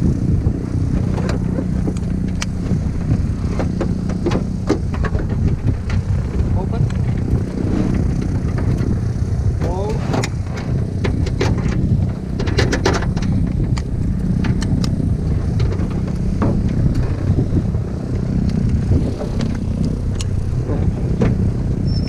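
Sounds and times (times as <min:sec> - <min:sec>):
engine running low: 0:00.0 - 0:22.0.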